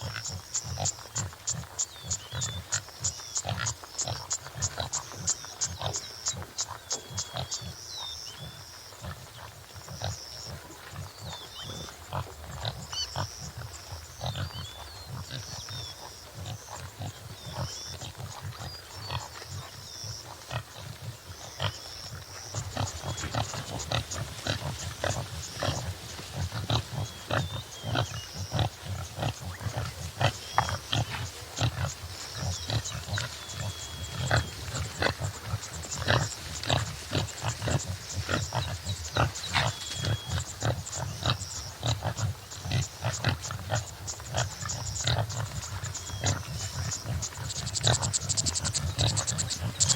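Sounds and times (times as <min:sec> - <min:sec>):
small birds chirping: 0:00.0 - 0:49.9
antelope grunting and snorting: 0:08.4 - 0:49.9.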